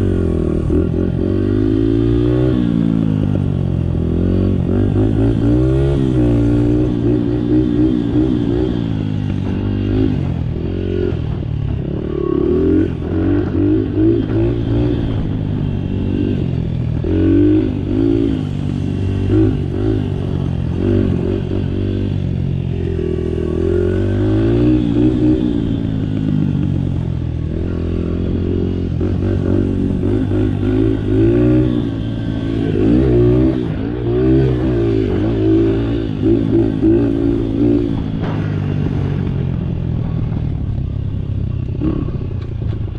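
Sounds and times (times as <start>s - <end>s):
dirt bike engine revving: 0.0s - 39.4s.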